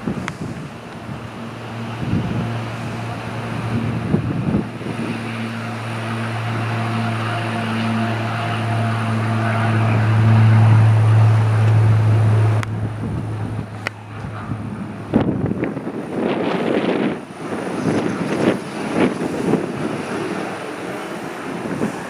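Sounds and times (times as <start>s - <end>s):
propeller airplane engine: 0.0s - 22.0s.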